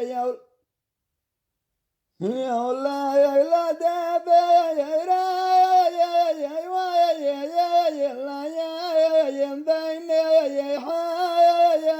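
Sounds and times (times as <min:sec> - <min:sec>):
person singing unaccompanied: 0:00.0 - 0:00.5, 0:02.2 - 0:11.9.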